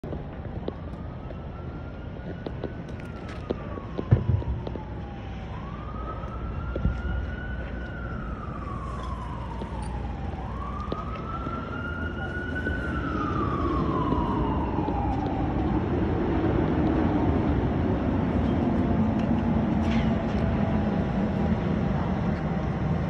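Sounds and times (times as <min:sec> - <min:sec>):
emergency vehicle siren wailing: 0:00.0 - 0:23.0
wind rumbling on microphone: 0:00.0 - 0:23.0.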